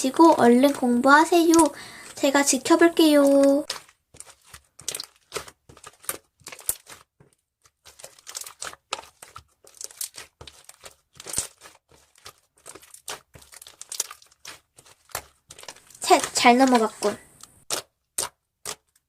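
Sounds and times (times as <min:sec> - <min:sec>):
slime squished by hand: 0:00.0 - 0:19.0.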